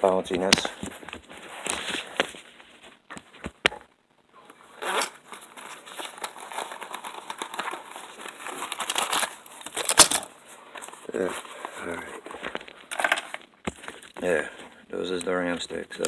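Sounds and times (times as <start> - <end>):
crinkly rustling: 0.0 - 3.7, 4.5 - 16.0.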